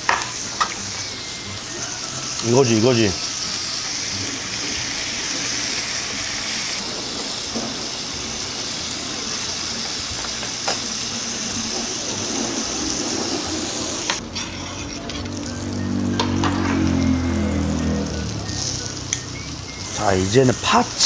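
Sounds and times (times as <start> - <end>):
meat sizzling on a grill: 0.0 - 21.0.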